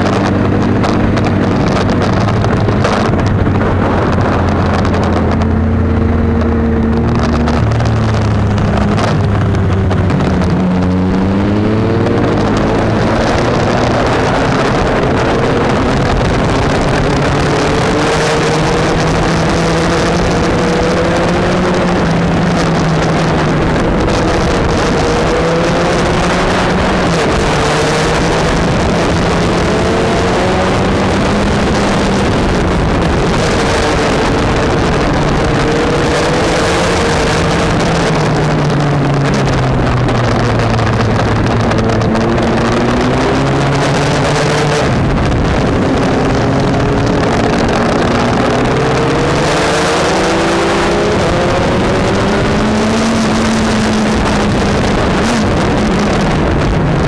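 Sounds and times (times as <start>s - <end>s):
motorcycle engine revving: 0.0s - 57.0s
wind on microphone: 0.0s - 57.0s.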